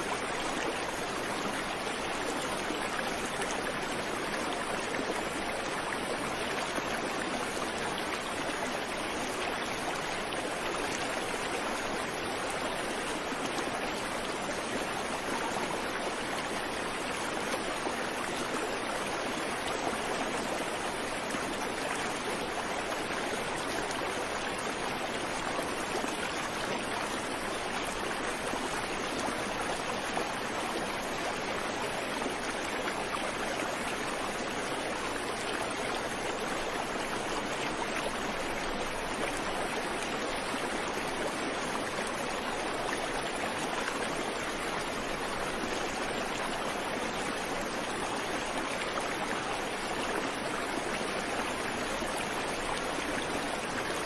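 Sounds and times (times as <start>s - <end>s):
creek water babbling over rocks: 0.0s - 54.0s.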